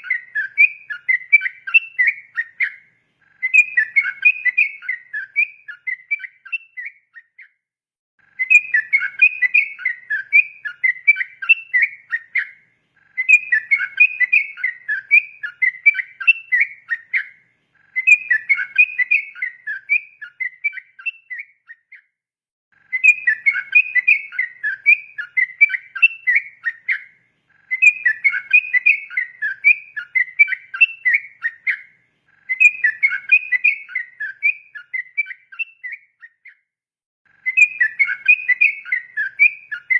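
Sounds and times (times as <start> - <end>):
bird singing bubbling song: 0.0 - 7.6, 8.2 - 22.2, 22.8 - 36.7, 37.3 - 39.9.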